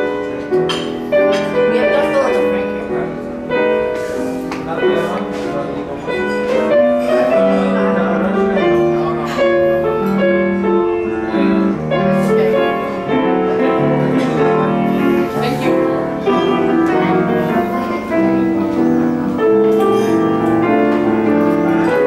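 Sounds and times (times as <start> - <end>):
grand piano melody: 0.0 - 22.0.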